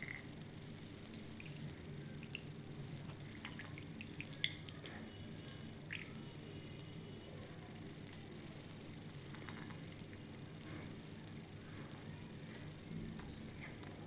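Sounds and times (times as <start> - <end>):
small drips and splashes: 0.9 - 14.0.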